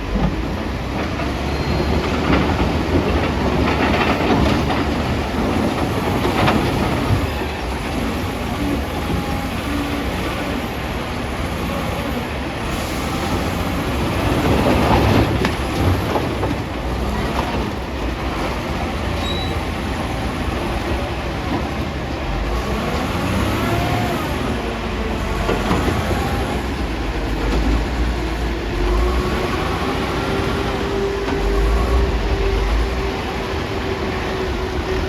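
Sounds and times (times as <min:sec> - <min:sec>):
diesel engine running hard: 0:00.0 - 0:35.0.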